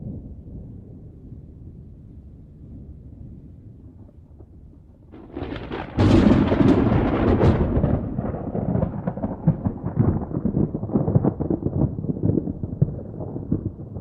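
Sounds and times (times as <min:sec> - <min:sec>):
thunder rumbling and crackling: 0:00.0 - 0:14.0.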